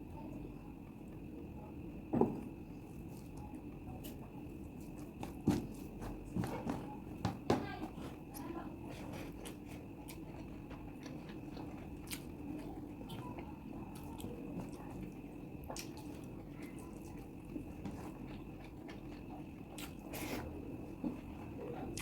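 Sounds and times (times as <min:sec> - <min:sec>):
steady background hum: 0:00.0 - 0:22.0
chewing food: 0:02.4 - 0:22.0.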